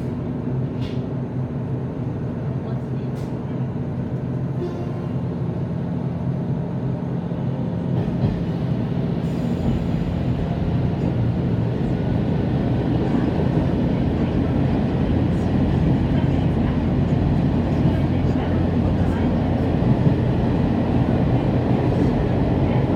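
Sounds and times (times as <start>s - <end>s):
railcar engine drone: 0.0s - 22.9s
wheel and rail rumble: 0.0s - 22.9s.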